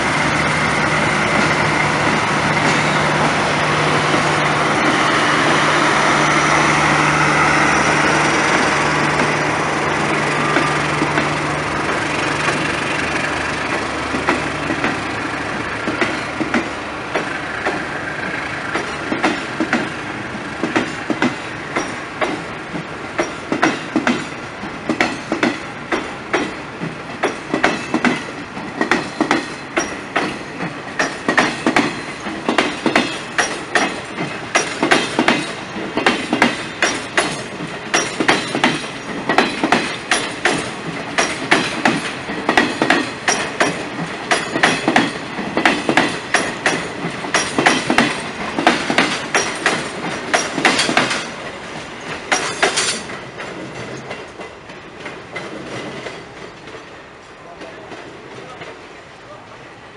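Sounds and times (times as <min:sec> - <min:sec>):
wheels clacking over rail joints: 0:00.0 - 0:59.2
train engine hum: 0:00.0 - 0:59.9.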